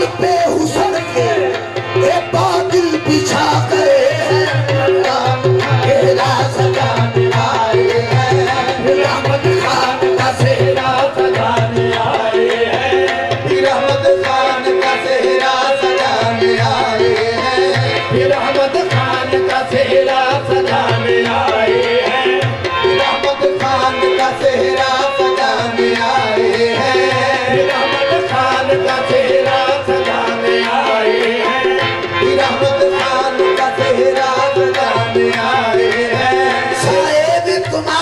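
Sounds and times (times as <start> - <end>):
harmonium melody: 0.0 - 38.0
tabla playing steady rhythm: 0.0 - 38.0.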